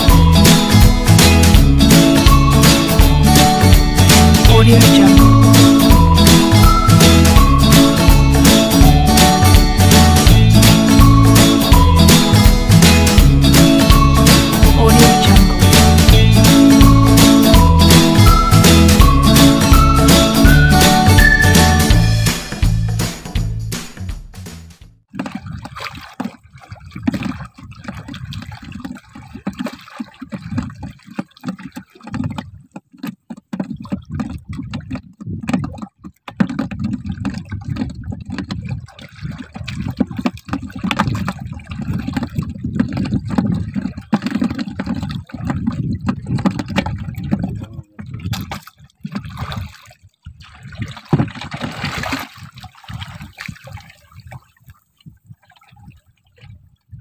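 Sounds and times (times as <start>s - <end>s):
water lapping against boat hull: 0.0s - 22.7s, 25.0s - 57.0s.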